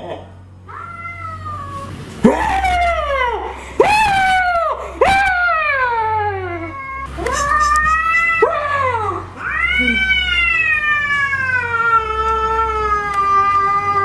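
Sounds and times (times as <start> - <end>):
cat yowling: 0.7 - 14.0.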